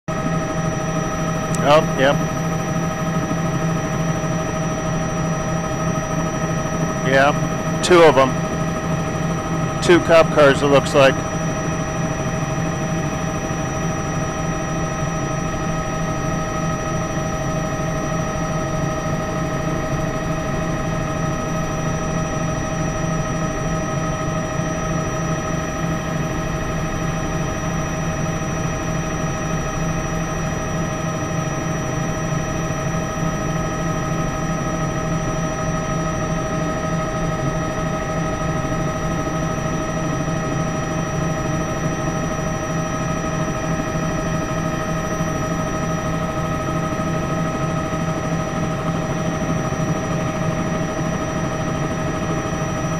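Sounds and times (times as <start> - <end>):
helicopter engine and rotor drone: 0.0 - 52.9.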